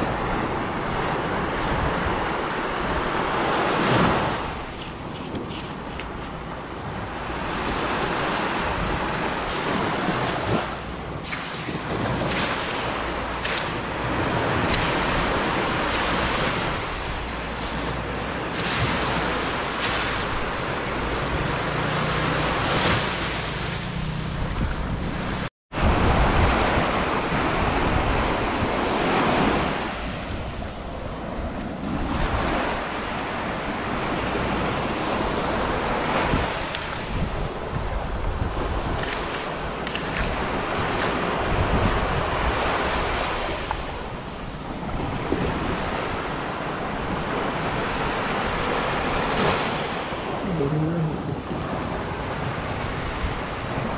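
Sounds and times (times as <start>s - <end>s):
surf washing onto beach: 0.0s - 23.8s, 25.8s - 53.9s
wind buffeting microphone: 0.0s - 53.9s.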